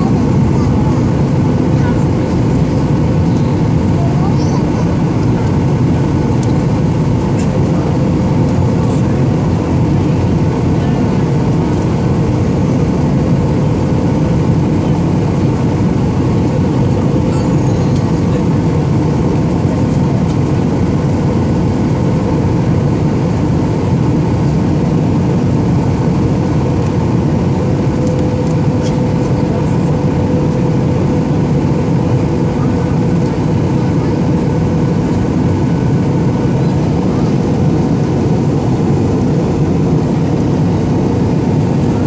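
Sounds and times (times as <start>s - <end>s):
jet engines droning: 0.0s - 42.0s.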